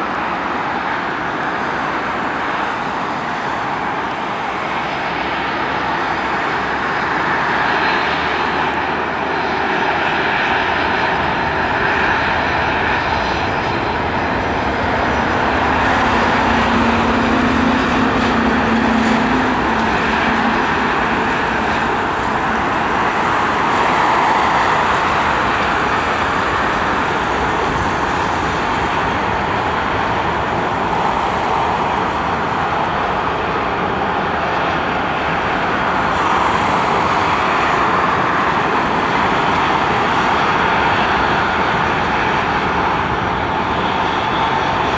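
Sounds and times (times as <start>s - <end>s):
jet engines rushing: 0.0s - 44.9s.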